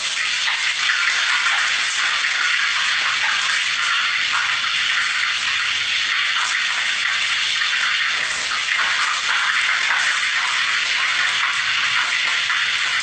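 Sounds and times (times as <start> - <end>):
food sizzling in hot oil: 0.0 - 13.0
oil popping: 0.0 - 13.0.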